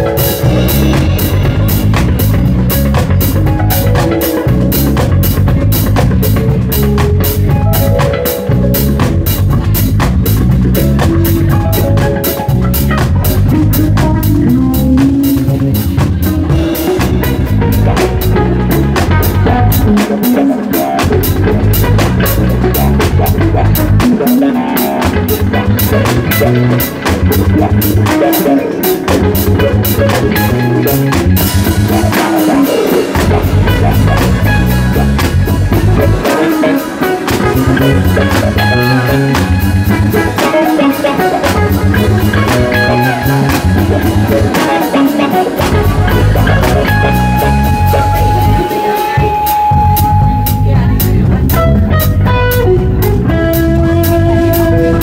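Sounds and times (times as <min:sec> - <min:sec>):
drum kit steady beat: 0:00.0 - 0:55.0
electric bass: 0:00.0 - 0:55.0
electric guitar: 0:00.0 - 0:55.0
keyboards: 0:00.0 - 0:55.0.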